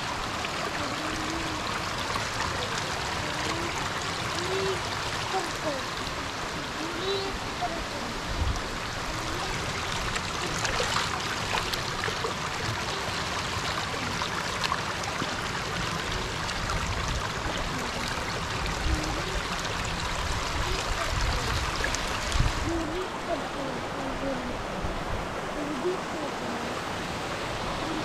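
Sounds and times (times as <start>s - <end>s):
small water splashes: 0.0s - 28.0s
stream running over stones: 0.0s - 28.0s.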